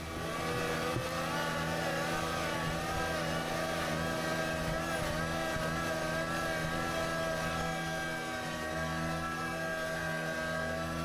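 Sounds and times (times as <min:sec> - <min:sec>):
wavering whine: 0:00.0 - 0:11.0.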